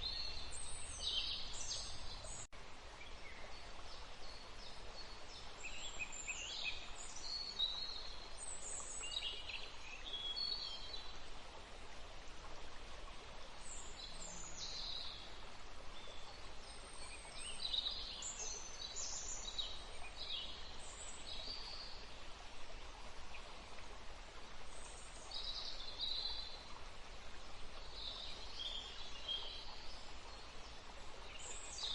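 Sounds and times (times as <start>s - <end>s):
songbirds singing: 0.0s - 11.2s, 13.6s - 22.3s, 24.7s - 31.9s
outdoor ambience hiss: 0.0s - 31.9s.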